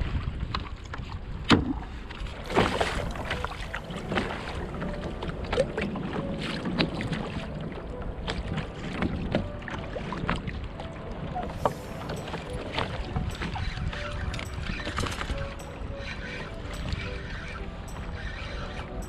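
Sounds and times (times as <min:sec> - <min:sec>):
water slapping against kayak hull: 0:00.0 - 0:18.4
wind rumble on microphone: 0:00.0 - 0:19.0.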